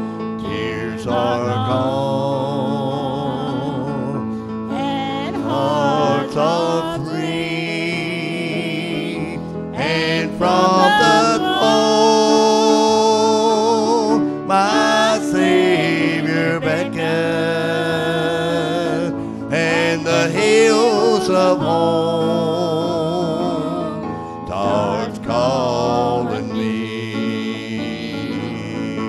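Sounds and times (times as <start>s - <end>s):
instrumental accompaniment: 0.0s - 29.0s
man and woman singing: 0.3s - 29.0s.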